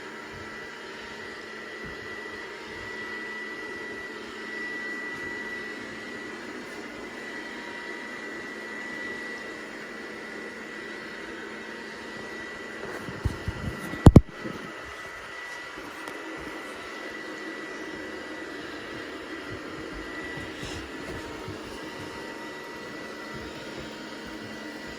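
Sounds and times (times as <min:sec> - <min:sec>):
robot vacuum cleaner running: 0:00.0 - 0:24.9.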